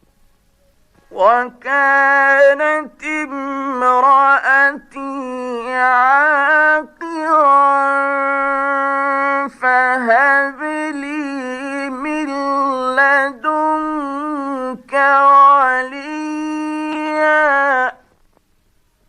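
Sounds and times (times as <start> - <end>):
man reciting melodically: 1.1 - 18.1.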